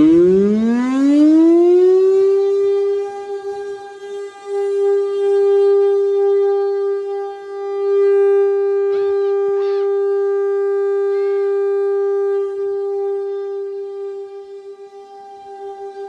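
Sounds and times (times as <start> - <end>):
warning siren steady tone: 0.0 - 16.0.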